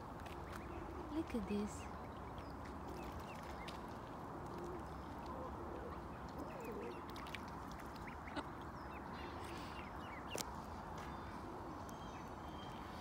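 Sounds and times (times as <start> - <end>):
background noise: 0.0 - 13.0
ducklings peeping: 0.1 - 13.0.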